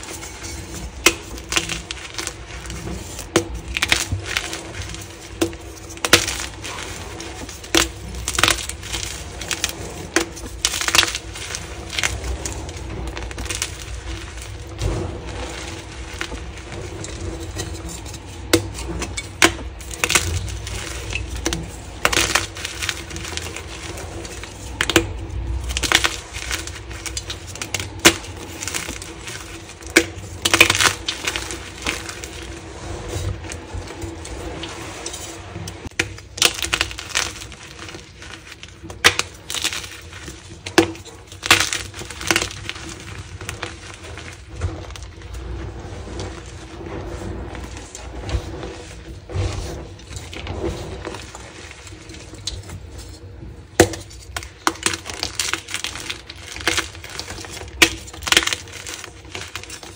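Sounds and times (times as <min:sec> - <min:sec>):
chalk crunching and crackling: 0:00.0 - 0:59.9.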